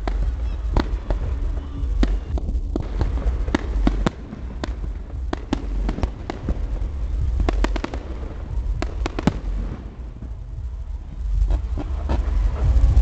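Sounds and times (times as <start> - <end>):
fireworks cracking and popping: 0.0 - 13.0
low rumble: 0.0 - 13.0.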